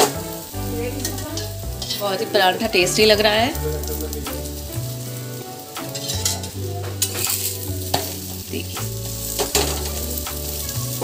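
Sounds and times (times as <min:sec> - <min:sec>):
flatbread sizzling in a pan: 0:00.0 - 0:11.0.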